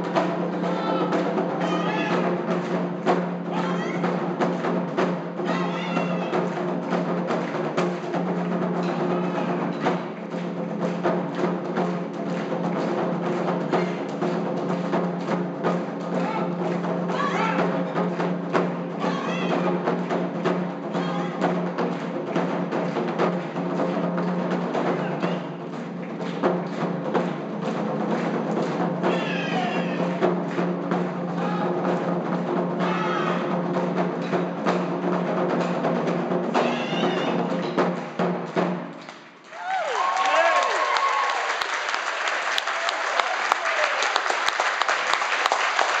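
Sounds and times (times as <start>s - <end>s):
taiko drum ensemble playing: 0.0s - 41.7s.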